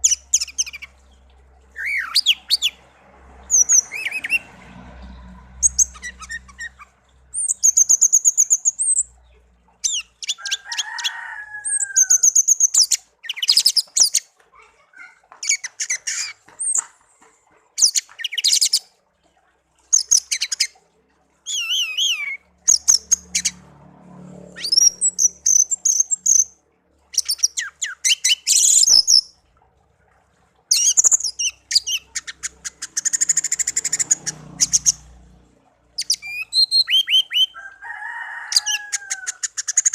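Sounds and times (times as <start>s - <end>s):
songbird chirping and trilling: 0.0s - 17.0s, 19.9s - 20.8s, 21.4s - 23.6s, 24.5s - 29.4s, 30.7s - 35.1s, 35.9s - 39.9s.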